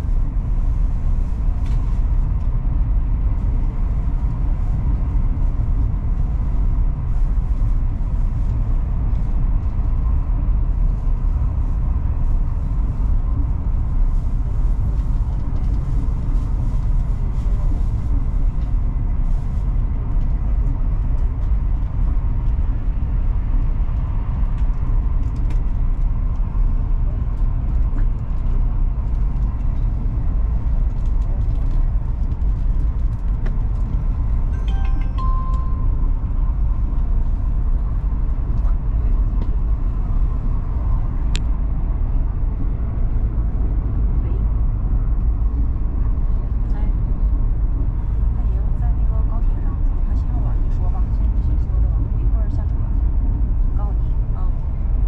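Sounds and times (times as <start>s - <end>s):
train cabin rumble: 0.0s - 55.0s.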